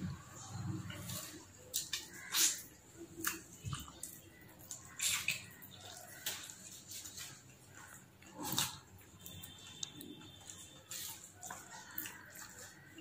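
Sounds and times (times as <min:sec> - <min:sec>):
man chewing with lip smacks: 0:00.8 - 0:13.0.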